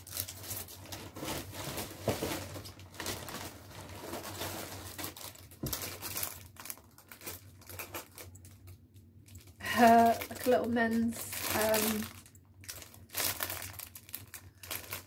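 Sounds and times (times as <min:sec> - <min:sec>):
cellophane crinkling and rustling: 0:00.0 - 0:15.0.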